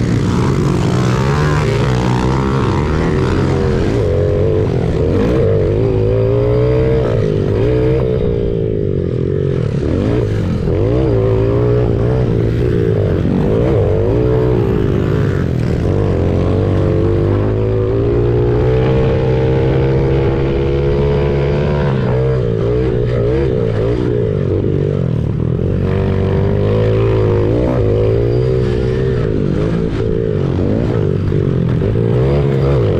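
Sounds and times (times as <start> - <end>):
other pit bike engines: 0.0 - 32.9
pit bike engine revving: 0.0 - 32.9.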